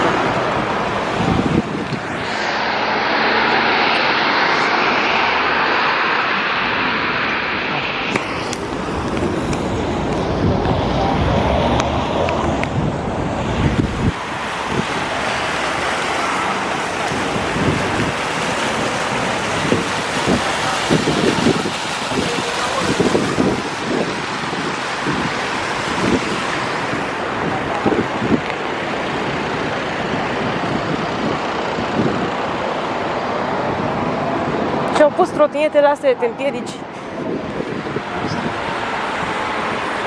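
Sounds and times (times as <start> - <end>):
fountain water splashing: 0.0 - 40.0
wind rumble on microphone: 0.0 - 40.0.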